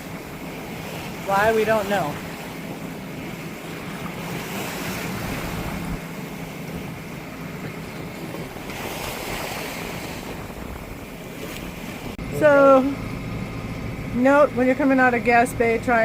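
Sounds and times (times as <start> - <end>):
sea slapping boat hull: 0.0 - 16.0
wind buffeting microphone: 0.0 - 16.0.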